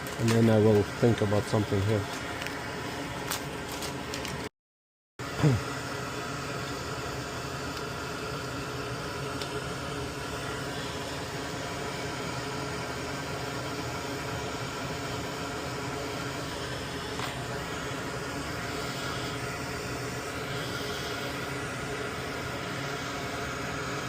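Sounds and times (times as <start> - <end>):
electric fan whirring: 0.0 - 4.5, 5.2 - 24.0.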